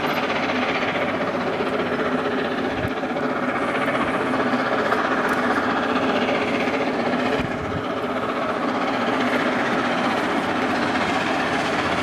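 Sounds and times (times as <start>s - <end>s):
steam train rushing: 0.0s - 12.0s.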